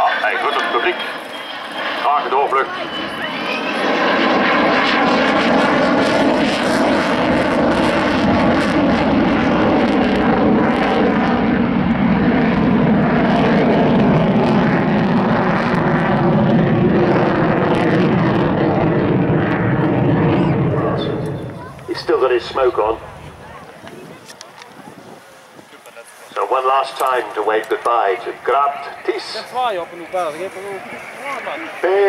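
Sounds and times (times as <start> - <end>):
jet engine roaring: 0.0 - 32.0.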